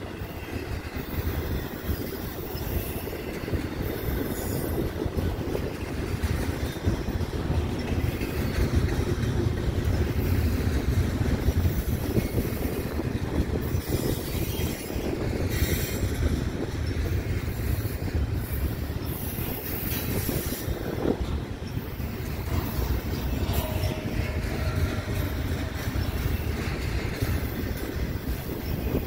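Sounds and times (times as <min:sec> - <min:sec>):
steel wheels rumbling on rails: 0:00.0 - 0:29.0.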